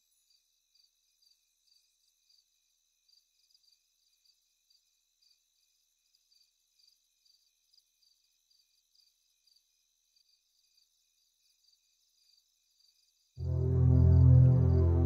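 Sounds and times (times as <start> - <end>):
faint night insects chirping: 0.0 - 14.7.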